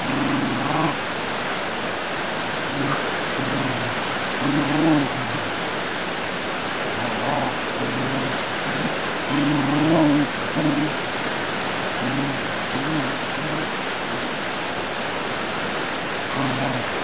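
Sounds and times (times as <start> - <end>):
puppies growling: 0.0 - 17.0
steady hiss: 0.0 - 17.0.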